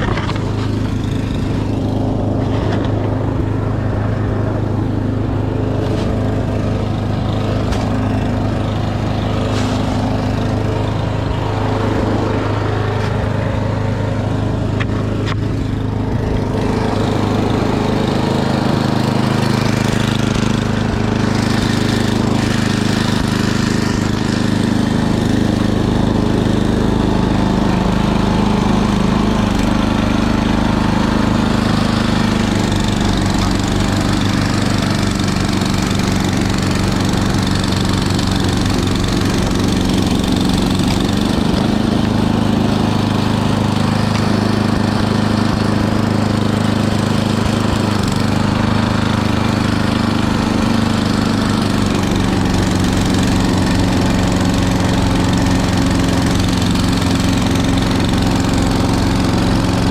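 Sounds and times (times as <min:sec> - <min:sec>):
small gasoline engine running: 0:00.0 - 0:59.9.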